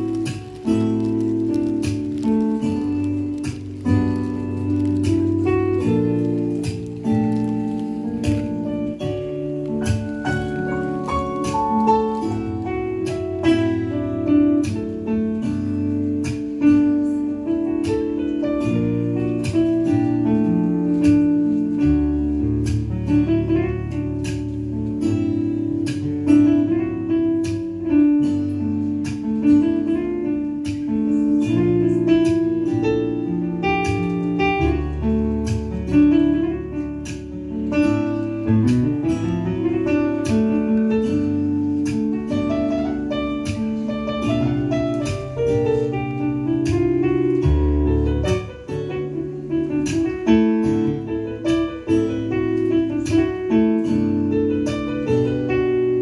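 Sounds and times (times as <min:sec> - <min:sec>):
jazz keyboard playing: 0:00.0 - 0:56.0.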